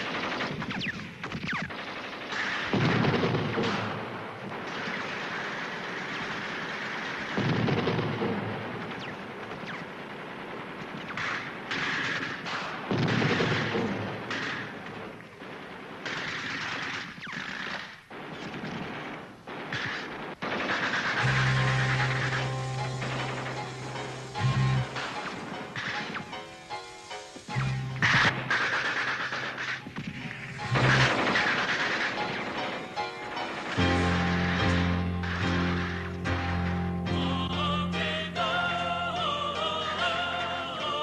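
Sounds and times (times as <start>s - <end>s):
rapid gunfire: 0.0s - 26.5s, 28.0s - 36.2s.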